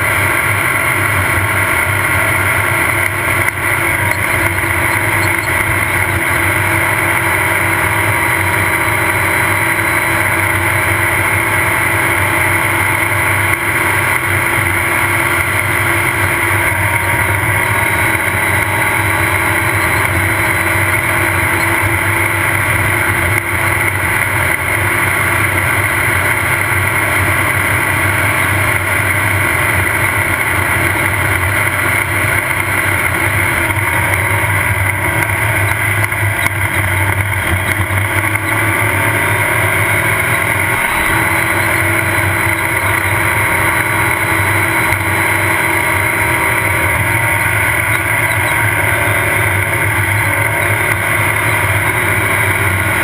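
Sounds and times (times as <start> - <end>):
race car engine running: 0.0 - 53.0
road and wind noise: 0.0 - 53.0.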